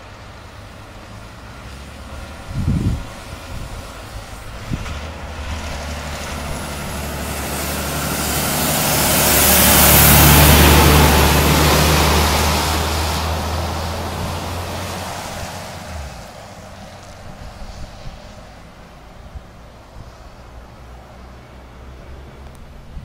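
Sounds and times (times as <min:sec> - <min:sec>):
heavy truck driving past: 0:00.0 - 0:23.0.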